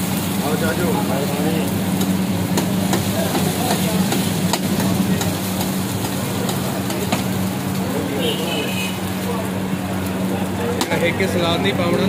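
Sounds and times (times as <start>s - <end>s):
eggs sizzling in oil: 0.0s - 11.8s.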